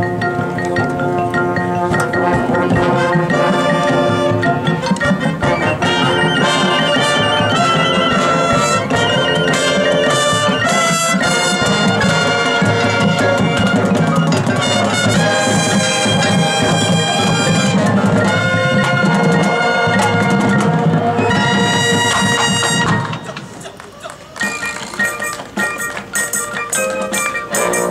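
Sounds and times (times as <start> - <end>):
brass chords: 0.0 - 23.6, 25.0 - 27.9
marching drums: 0.0 - 27.9.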